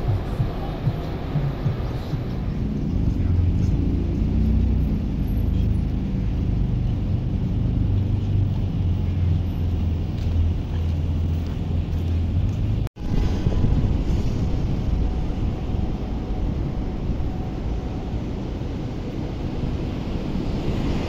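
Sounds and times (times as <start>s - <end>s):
street noise: 0.0s - 21.0s
vehicle engine rumbling: 0.0s - 21.0s.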